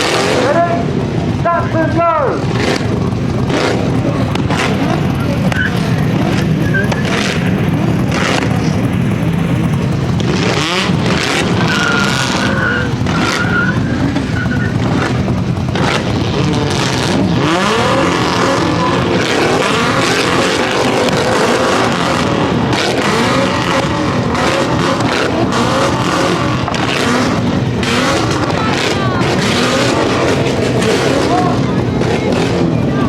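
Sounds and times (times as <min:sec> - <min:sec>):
car engine revving hard: 0:00.0 - 0:33.0
tyres squealing: 0:01.4 - 0:33.0.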